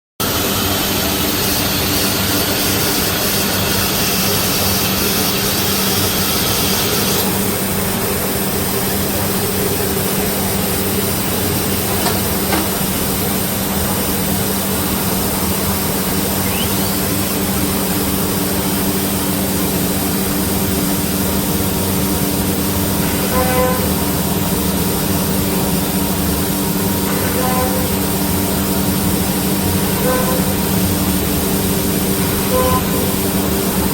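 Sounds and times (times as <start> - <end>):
high spindle hiss: 0.2 - 33.9.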